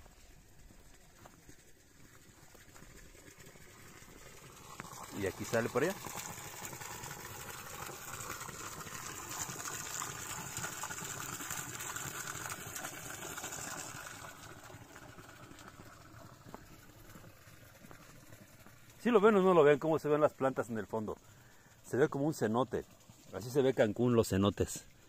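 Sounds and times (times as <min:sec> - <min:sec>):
water pouring from pipe into pool: 0:00.0 - 0:25.0.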